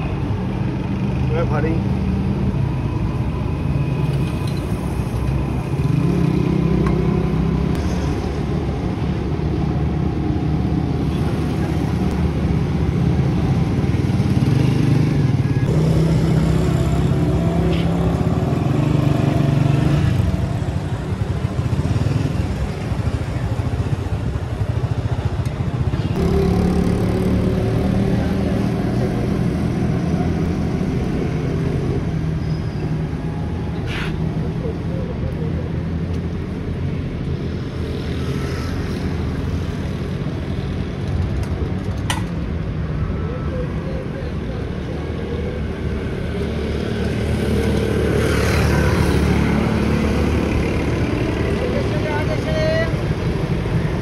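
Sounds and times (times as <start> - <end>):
motorcycle engines running: 4.0 - 54.0.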